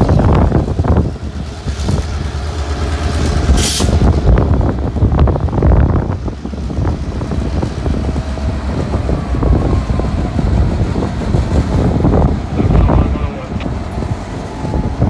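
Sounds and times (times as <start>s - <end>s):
diesel locomotive engine rumbling: 0.0s - 15.0s
wind buffeting microphone: 0.0s - 15.0s.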